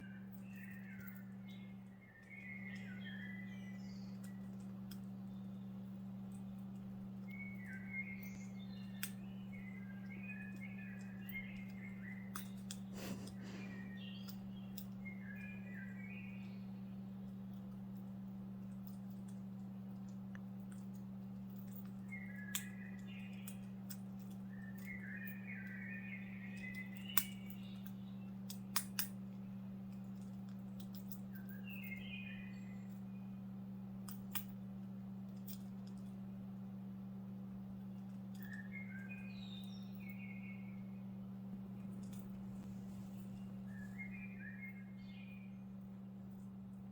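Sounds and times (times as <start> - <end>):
pet bird chirping: 0.0 - 30.4, 31.0 - 33.7, 37.6 - 46.0
steady low hum: 0.0 - 46.9.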